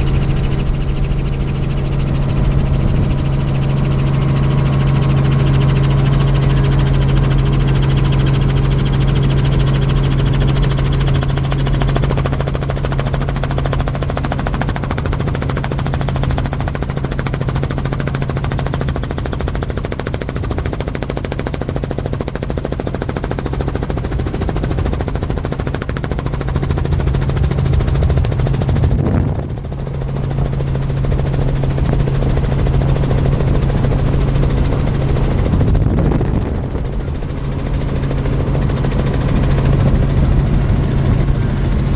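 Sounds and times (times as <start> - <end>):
helicopter cabin drone: 0.0 - 41.9.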